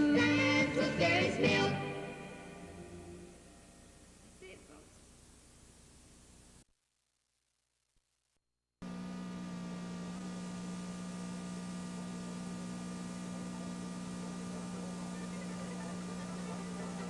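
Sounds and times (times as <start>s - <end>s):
electrical mains hum: 0.0s - 8.0s, 8.8s - 17.0s
tape hiss: 0.0s - 17.0s.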